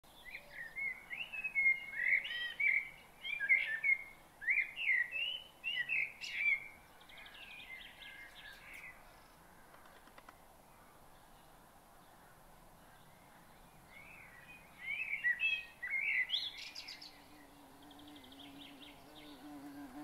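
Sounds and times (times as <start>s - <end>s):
songbirds chirping and singing: 0.1s - 20.0s.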